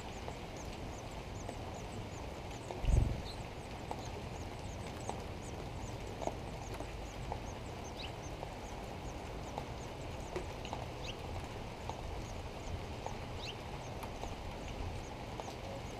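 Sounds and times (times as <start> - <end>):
low background noise: 0.0 - 15.9
small bird chirping: 0.0 - 15.9.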